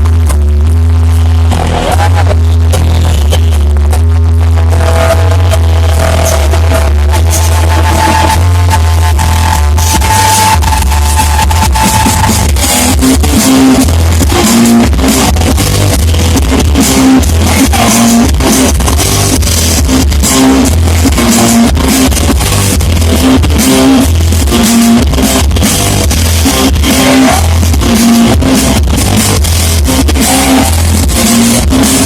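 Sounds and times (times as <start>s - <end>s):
bass guitar: 0.0s - 32.0s
drum kit: 0.0s - 32.0s
electric guitar riff: 0.0s - 32.0s
hard rock band playing live: 4.7s - 32.0s.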